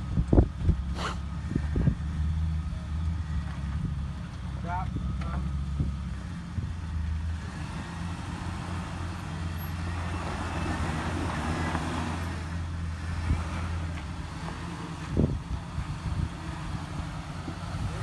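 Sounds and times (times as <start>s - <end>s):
car engine running: 0.0s - 18.0s
tyre and gravel noise: 0.0s - 18.0s.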